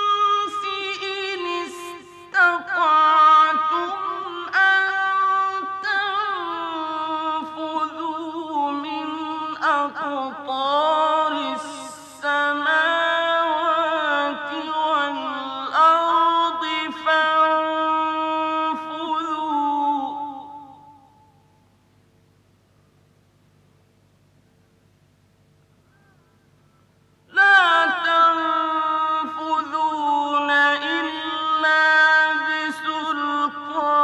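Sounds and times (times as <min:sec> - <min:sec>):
man chanting melodically: 0:00.0 - 0:21.0, 0:27.3 - 0:34.0.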